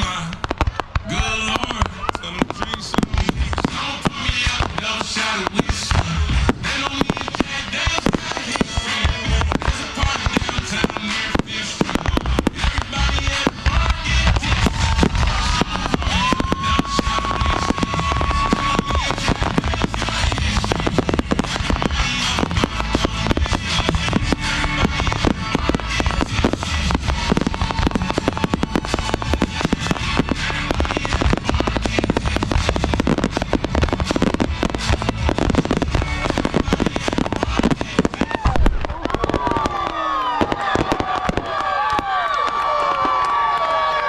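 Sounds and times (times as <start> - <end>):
fireworks bangs and crackle: 0.0 - 44.0.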